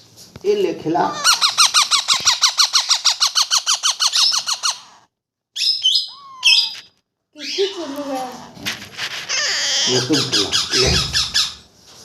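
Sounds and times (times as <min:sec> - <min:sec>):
parakeet chick begging calls: 0:01.0 - 0:11.7
parakeet squawks: 0:01.0 - 0:11.7.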